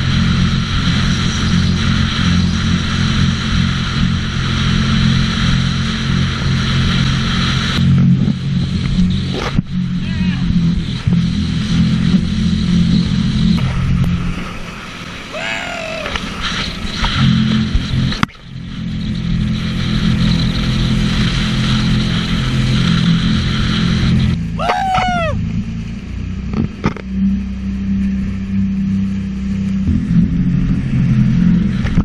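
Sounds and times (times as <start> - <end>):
jet ski engine running: 0.0 - 32.0
wind and water rushing: 0.0 - 32.0.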